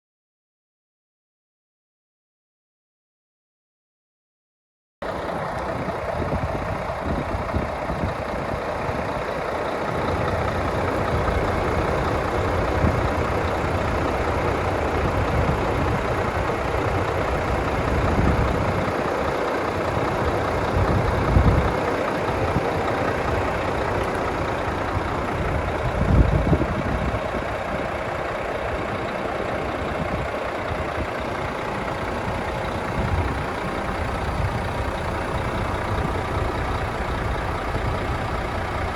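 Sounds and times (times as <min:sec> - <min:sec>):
diesel engine idling: 0:05.0 - 0:38.9.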